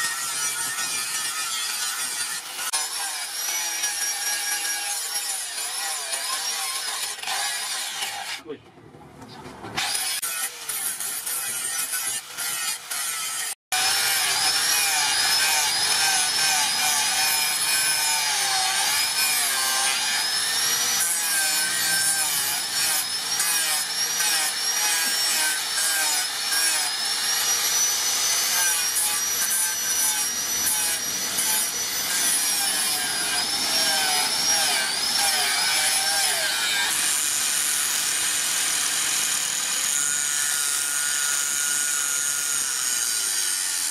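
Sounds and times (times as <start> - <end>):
angle grinder grinding steel: 0.0 - 8.4, 9.8 - 43.9.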